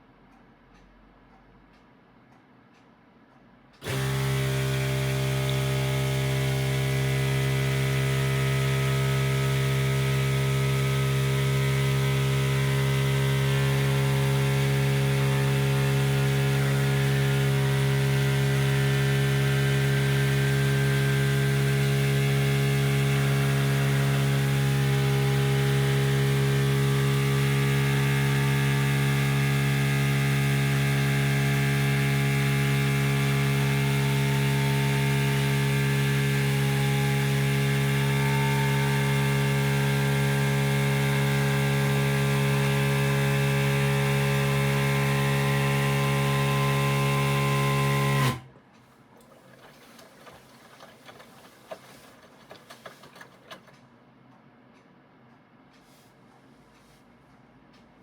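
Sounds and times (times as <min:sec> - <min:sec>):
washing machine electric hum: 0:03.6 - 0:58.0.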